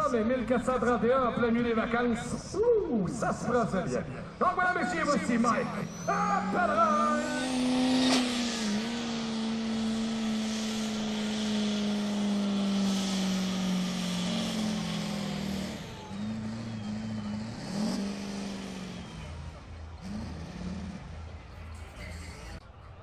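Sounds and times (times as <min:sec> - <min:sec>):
diesel pickup engine revving: 0:00.0 - 0:22.6.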